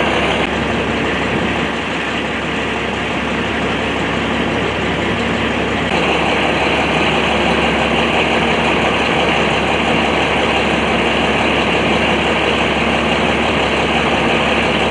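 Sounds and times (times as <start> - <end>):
vehicle engine idling: 0.0 - 14.9.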